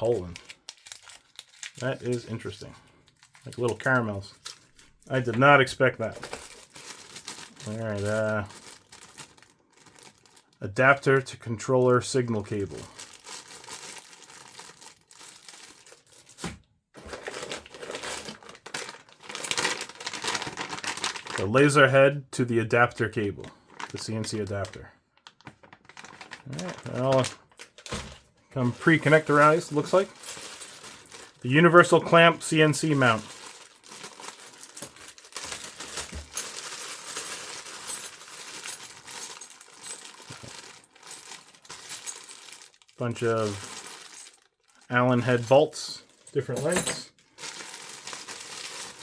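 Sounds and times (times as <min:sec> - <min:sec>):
plastic packaging crinkling: 0:00.0 - 0:11.2, 0:12.2 - 0:21.7, 0:23.4 - 0:49.0.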